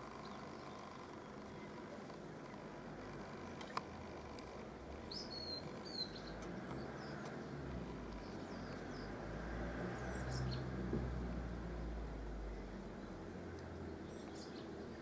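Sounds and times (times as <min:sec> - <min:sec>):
small birds chirping: 0:00.0 - 0:10.9, 0:12.3 - 0:15.0.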